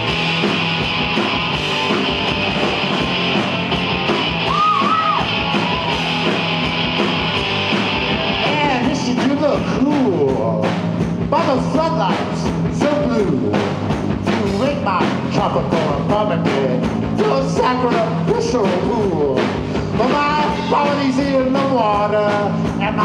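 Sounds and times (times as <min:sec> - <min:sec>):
distorted electric guitars: 0:00.0 - 0:23.0
driving drums: 0:00.0 - 0:23.0
punk rock band playing: 0:00.0 - 0:23.0.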